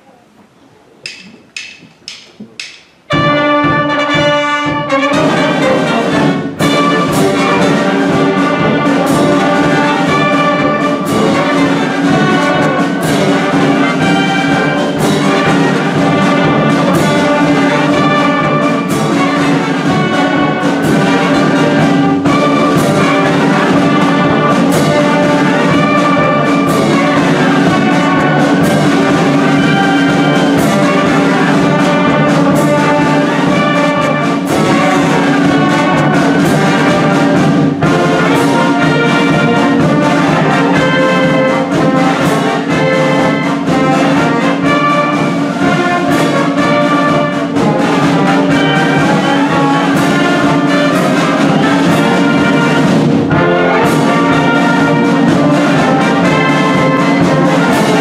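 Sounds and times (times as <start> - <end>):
snare and bass drum beat: 1.0 - 58.0
brass and saxophones melody: 3.1 - 58.0.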